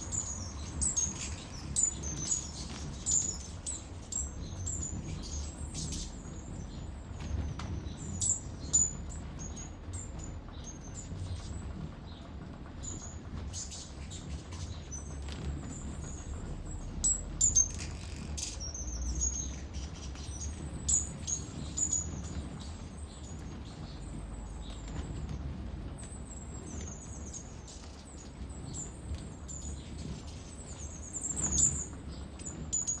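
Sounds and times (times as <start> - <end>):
hummingbirds chirping: 0.0 - 7.2, 7.8 - 15.1, 18.4 - 33.0.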